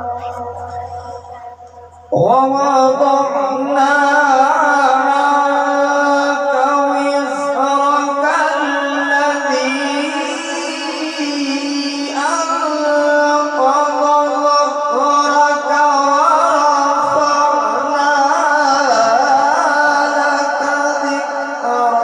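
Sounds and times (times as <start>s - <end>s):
amplified melodic recitation: 0.0s - 22.0s.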